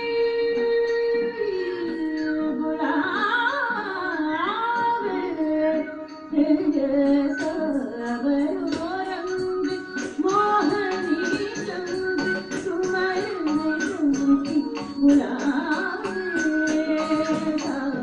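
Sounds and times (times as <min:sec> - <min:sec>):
person singing sliding melody: 0:00.0 - 0:18.0.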